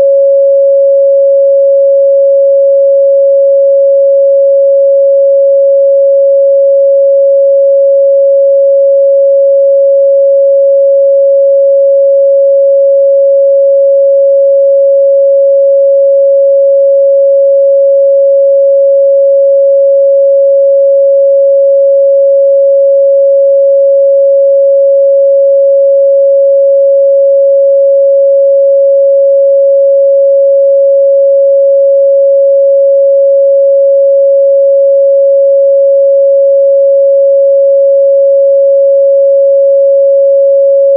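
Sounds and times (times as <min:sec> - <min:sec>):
sine-wave test tone: 0:00.0 - 0:40.9.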